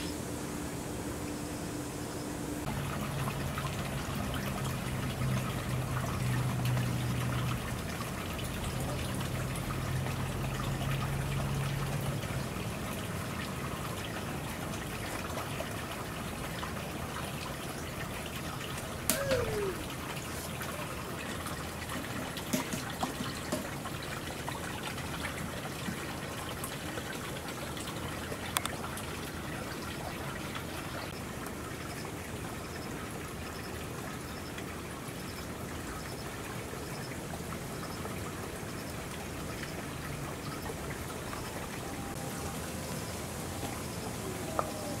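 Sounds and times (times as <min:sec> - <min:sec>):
water trickling into pond: 0:00.0 - 0:45.0.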